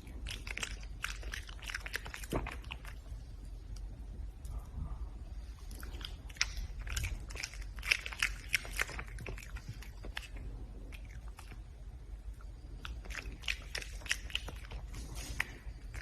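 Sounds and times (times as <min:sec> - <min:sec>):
animal chewing and crunching: 0:00.0 - 0:04.8, 0:05.4 - 0:16.0.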